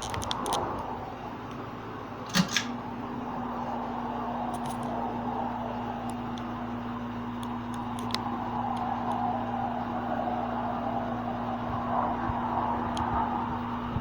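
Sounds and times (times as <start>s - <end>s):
air rushing from fan blades: 0.0s - 14.0s
ceiling fan motor hum: 0.0s - 14.0s.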